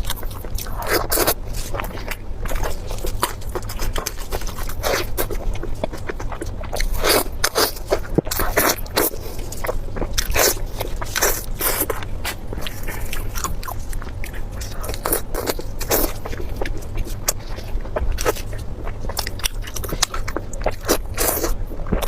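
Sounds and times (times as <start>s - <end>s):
person biting and chewing: 0.0s - 22.0s.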